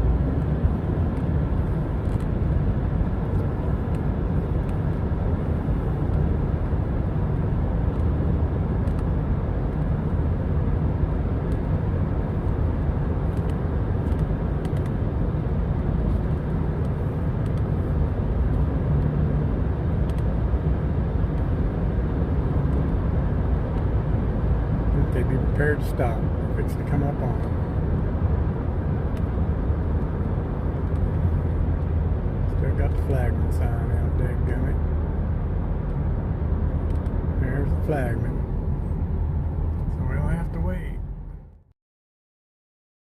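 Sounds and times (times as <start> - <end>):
car road and engine rumble: 0.0 - 41.7.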